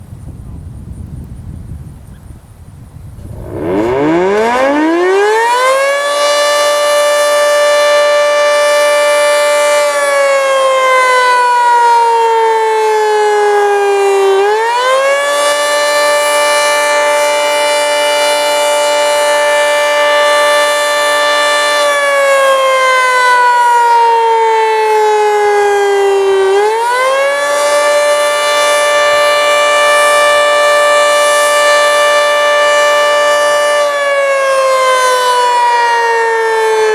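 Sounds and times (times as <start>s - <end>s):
three-tone warning siren: 3.2s - 36.9s.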